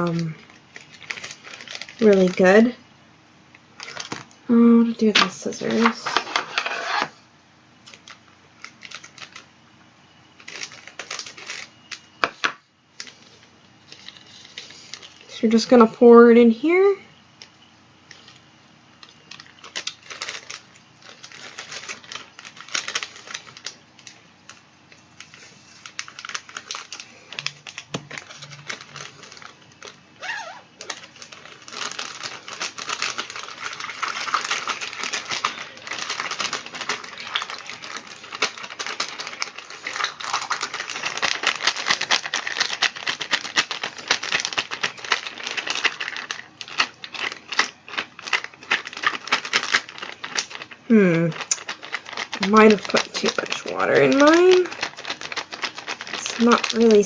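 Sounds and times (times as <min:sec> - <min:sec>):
plastic bag crinkling: 0:00.0 - 0:02.8, 0:03.5 - 0:07.2, 0:07.8 - 0:15.9, 0:16.8 - 0:57.0.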